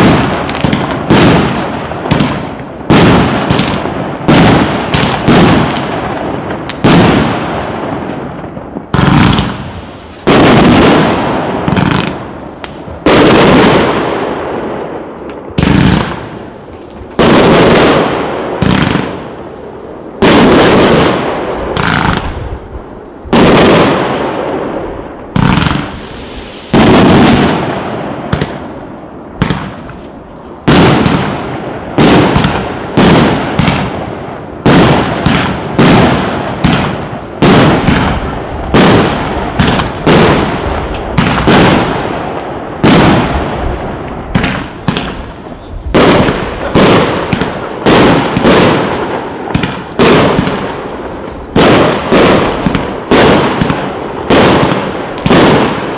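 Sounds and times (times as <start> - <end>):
fireworks bursts: 0.0 - 55.9.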